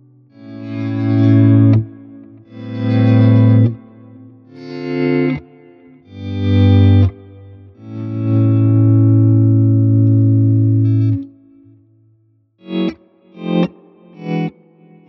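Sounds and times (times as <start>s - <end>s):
electric guitar chords: 0.0s - 11.8s, 12.6s - 15.0s.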